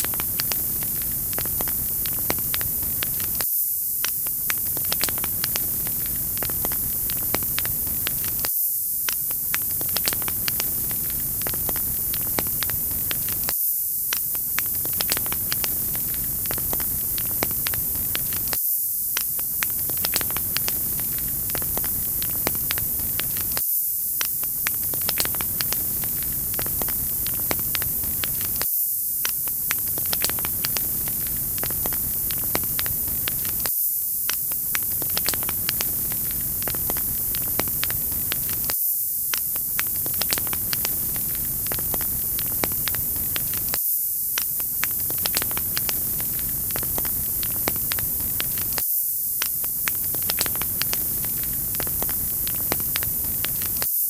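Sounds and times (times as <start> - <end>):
fireplace fire crackling and popping: 0.0 - 53.9.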